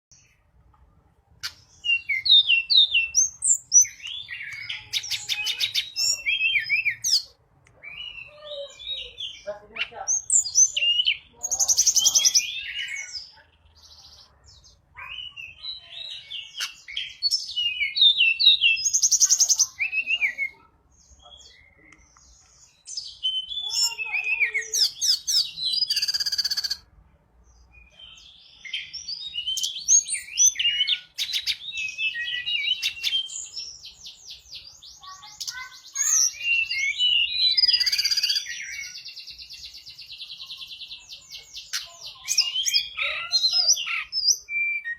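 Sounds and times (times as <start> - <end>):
bird singing chirps and trills: 0.1 - 44.9.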